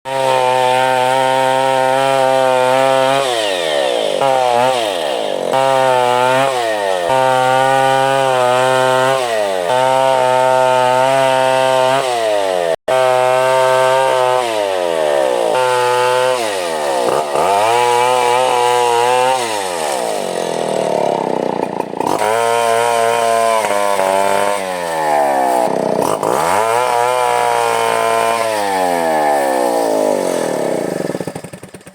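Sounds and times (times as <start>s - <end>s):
chainsaw running at high revs: 0.0s - 31.9s.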